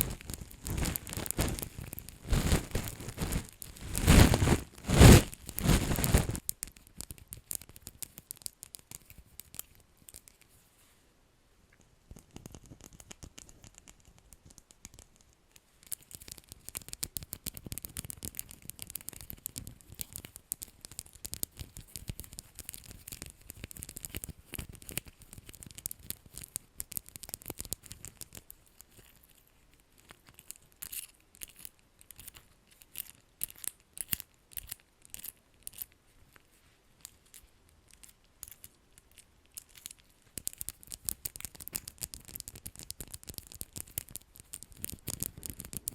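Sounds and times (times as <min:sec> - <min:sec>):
tapping and scratching on object: 0:00.0 - 0:10.6, 0:11.7 - 0:45.9.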